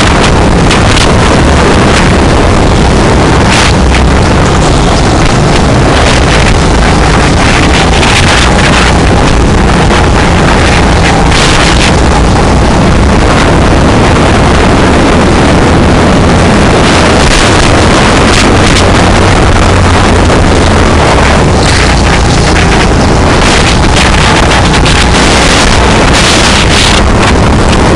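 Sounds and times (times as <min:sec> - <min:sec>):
go-kart engine running: 0:00.0 - 0:27.9
wind buffeting microphone: 0:00.0 - 0:27.9.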